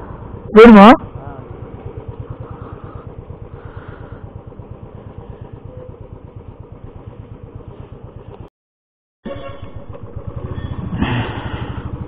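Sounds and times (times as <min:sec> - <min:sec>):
motorcycle engine thumping at low revs: 0:00.1 - 0:08.5, 0:09.7 - 0:12.0.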